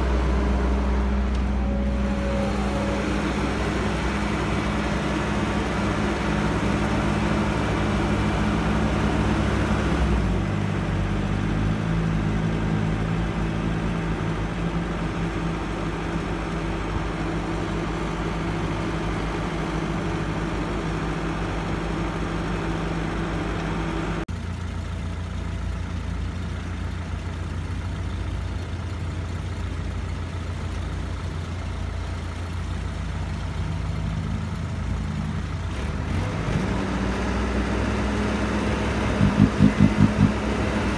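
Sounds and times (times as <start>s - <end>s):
dump truck engine running: 0.0s - 40.9s
excavator diesel engine: 0.0s - 40.9s.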